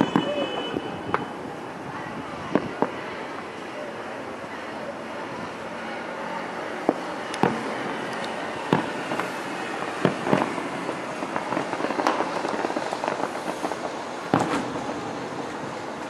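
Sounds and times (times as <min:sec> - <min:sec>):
fireworks bursting with sharp bangs: 0:00.0 - 0:03.7, 0:05.5 - 0:16.0.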